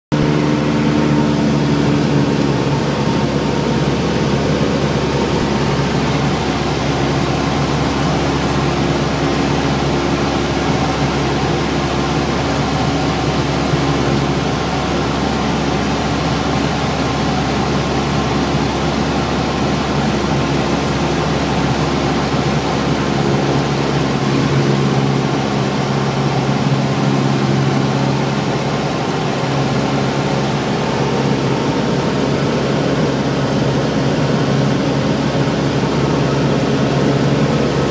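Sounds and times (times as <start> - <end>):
aircraft engine and propeller droning: 0.1 - 37.9
airflow rush: 0.2 - 37.9.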